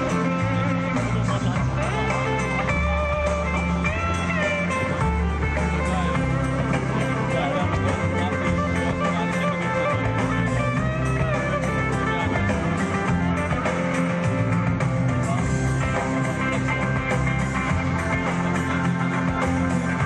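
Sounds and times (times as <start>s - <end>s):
guitar-led rock music: 0.0s - 20.0s.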